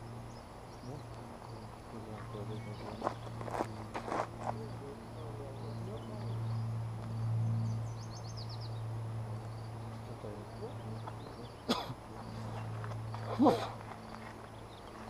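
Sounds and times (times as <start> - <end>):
small bird chirping: 0.0 - 3.8, 4.5 - 15.0
steady low hum: 0.0 - 15.0.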